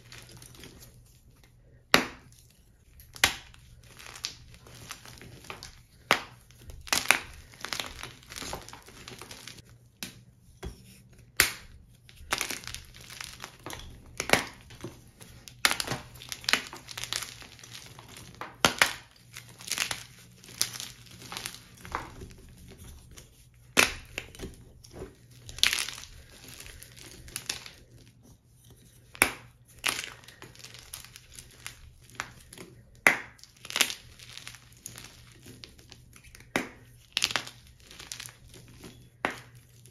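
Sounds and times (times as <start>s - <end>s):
chalk crumbling: 2.2s - 9.8s, 10.6s - 39.9s.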